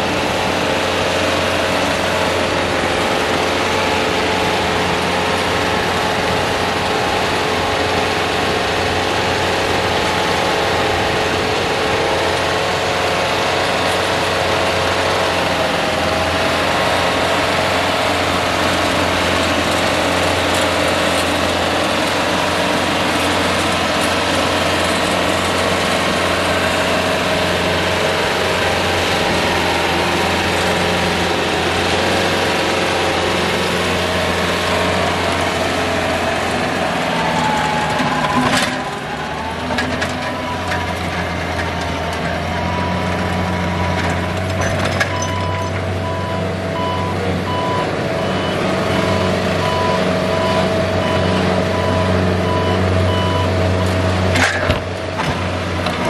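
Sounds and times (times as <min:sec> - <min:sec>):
rotary tiller in soil: 0:00.0 - 0:56.0
tractor diesel engine running: 0:00.0 - 0:56.0.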